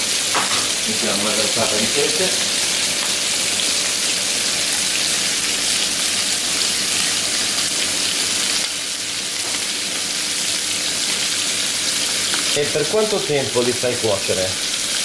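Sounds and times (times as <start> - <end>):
squid sizzling in hot oil: 0.0 - 15.0.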